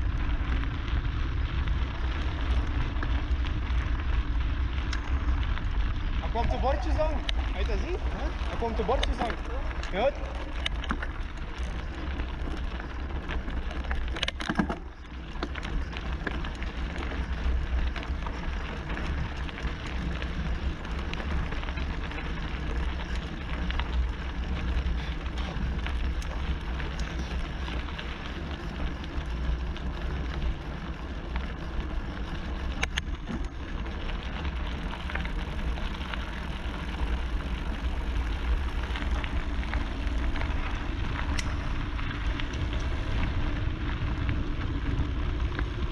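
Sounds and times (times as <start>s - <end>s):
bike tyres crunching on gravel: 0.0s - 45.9s
wind rumble on microphone: 0.0s - 45.9s.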